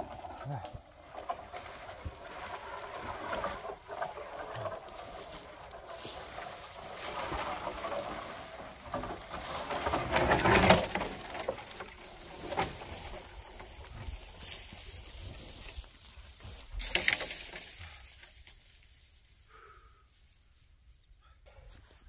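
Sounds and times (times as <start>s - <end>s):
tree trunk dragged over dirt: 0.0s - 19.8s.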